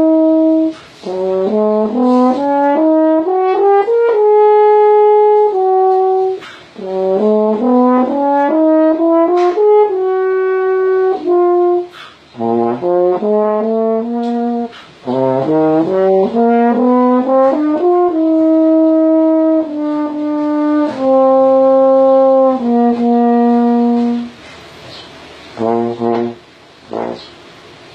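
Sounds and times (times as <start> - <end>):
french horn playing: 0.0 - 24.5, 25.5 - 27.4.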